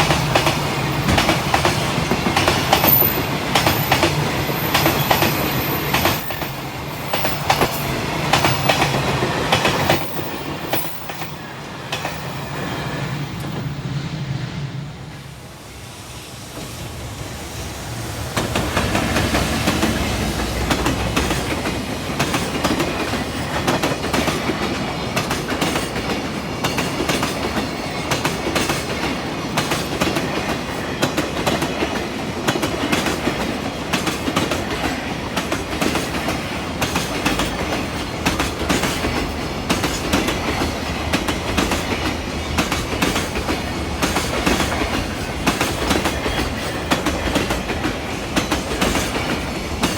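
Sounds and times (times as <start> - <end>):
train wheels clattering on rails: 0.0 - 15.4, 16.4 - 49.9.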